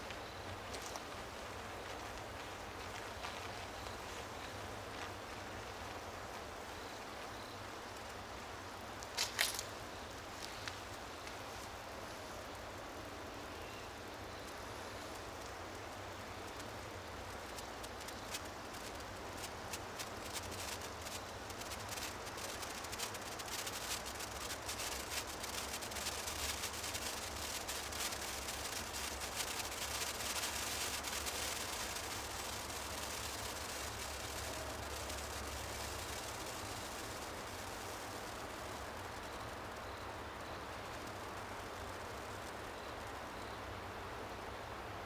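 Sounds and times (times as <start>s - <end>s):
sparkler spark crackles: 0.0s - 43.2s
small ticks: 0.0s - 43.6s
faint steady hiss: 0.0s - 45.0s.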